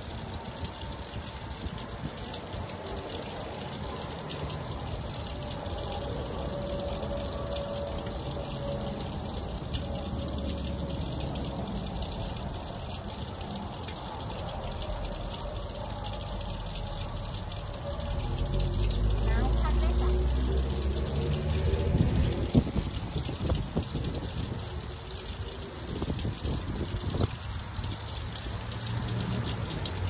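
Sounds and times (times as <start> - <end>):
water running under ice: 0.0 - 30.0.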